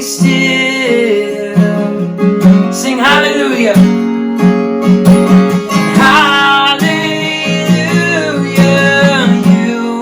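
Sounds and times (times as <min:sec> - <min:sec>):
person singing: 0:00.0 - 0:04.1, 0:05.7 - 0:10.0
strummed acoustic guitar: 0:00.0 - 0:10.0.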